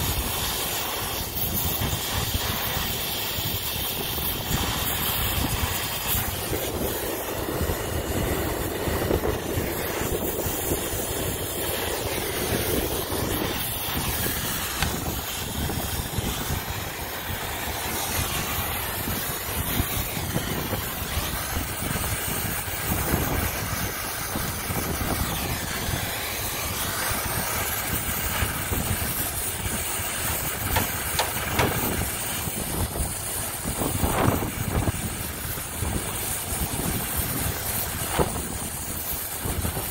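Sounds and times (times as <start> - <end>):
brazing torch flame: 0.0 - 39.9.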